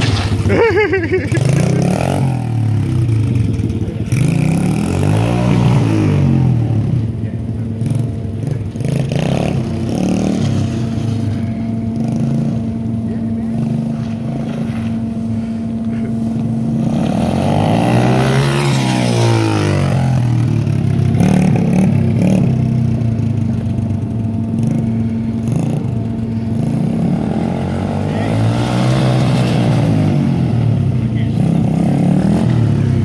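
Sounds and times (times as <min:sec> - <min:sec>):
pit bike engine running: 0:00.0 - 0:33.0.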